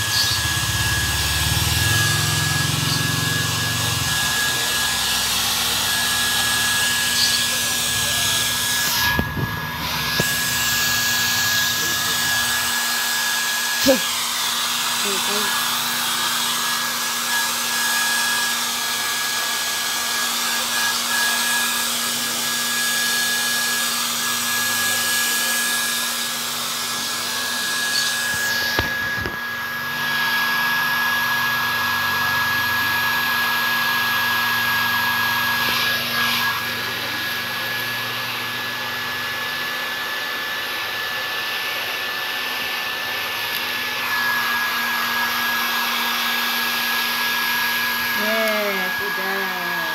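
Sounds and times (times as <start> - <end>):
hair dryer whining and blowing: 0.0 - 49.9.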